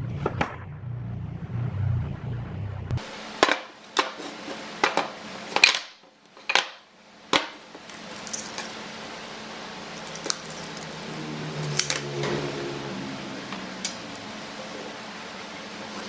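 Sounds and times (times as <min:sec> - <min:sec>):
steady low hum: 0:00.0 - 0:05.6, 0:06.3 - 0:16.0.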